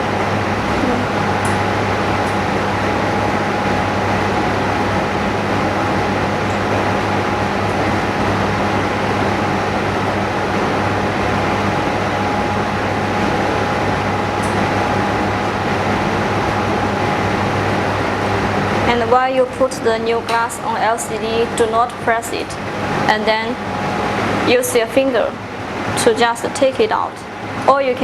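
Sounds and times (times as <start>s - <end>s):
low electrical hum: 0.0s - 28.0s
machine hum and hiss: 0.0s - 28.0s
thin steady whine: 0.0s - 28.0s.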